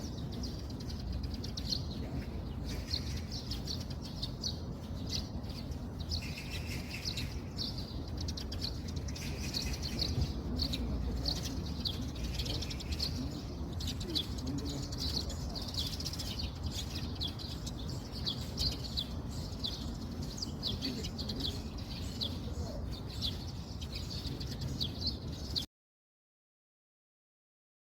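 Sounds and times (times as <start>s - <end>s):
steady low rumble: 0.0s - 25.6s
small birds chirping: 0.0s - 25.7s.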